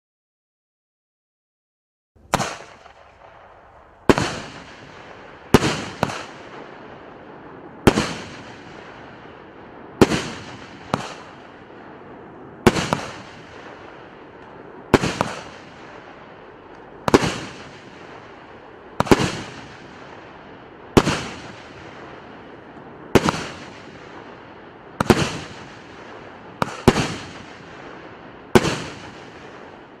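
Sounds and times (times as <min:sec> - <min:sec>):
firework bangs: 0:02.2 - 0:30.0.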